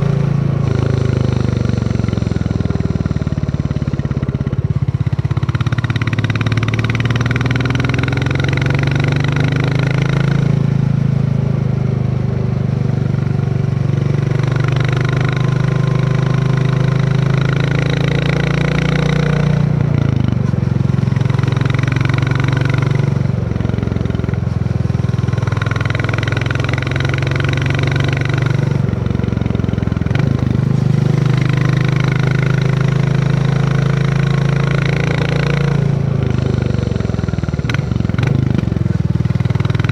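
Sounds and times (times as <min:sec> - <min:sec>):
motorcycle engine thumping: 0:00.0 - 0:11.0, 0:12.9 - 0:39.9.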